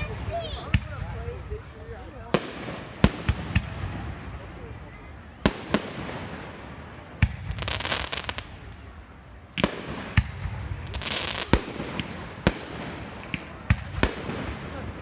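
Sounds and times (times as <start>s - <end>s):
firework bangs: 0.0s - 15.0s
firework crackling: 0.0s - 15.0s.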